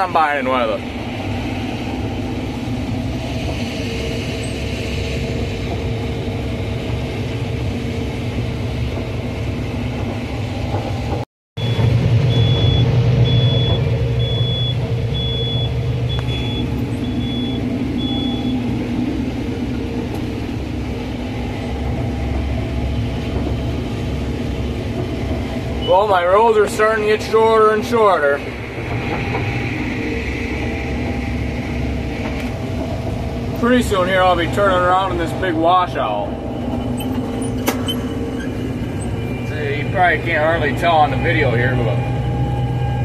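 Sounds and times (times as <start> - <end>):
combine harvester droning: 0.0 - 43.0.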